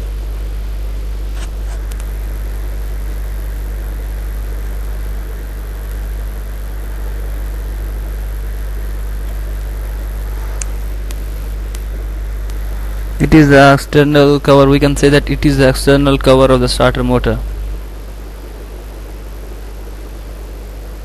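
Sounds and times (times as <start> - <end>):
faint hiss: 0.0 - 21.0
steady low hum: 0.0 - 21.0.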